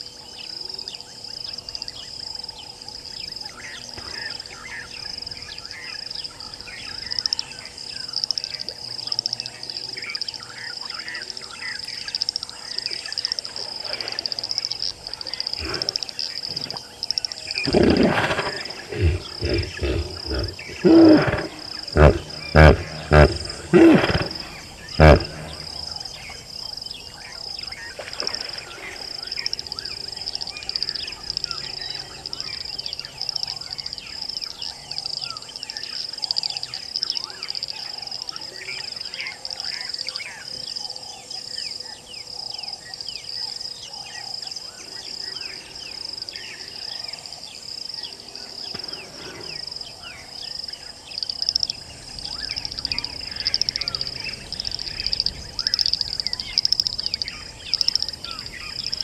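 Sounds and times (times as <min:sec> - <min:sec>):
high-pitched insect trill: 0:00.0 - 0:48.8, 0:49.5 - 0:59.0
bird calls: 0:00.0 - 0:59.0
frog calls: 0:00.0 - 0:59.0.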